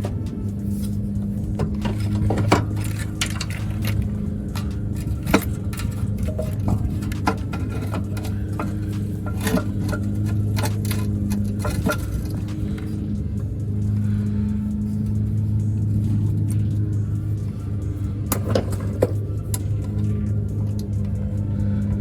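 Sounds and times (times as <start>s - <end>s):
metallic clinks and knocks: 0.0s - 21.4s
steady low hum: 0.0s - 22.0s.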